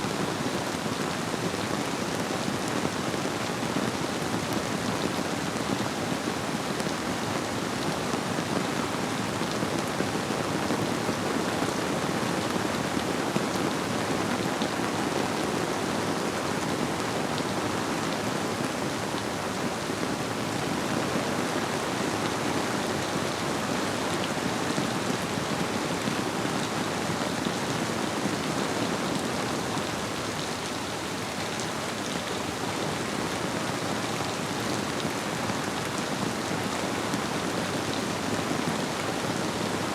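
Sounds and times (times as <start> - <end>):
flowing river: 0.0 - 39.9
rain pattering: 0.1 - 39.9.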